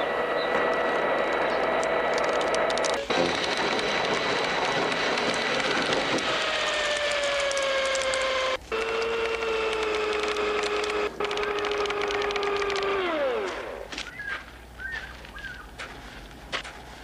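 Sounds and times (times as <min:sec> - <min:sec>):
engine running at high revs: 0:00.0 - 0:14.1.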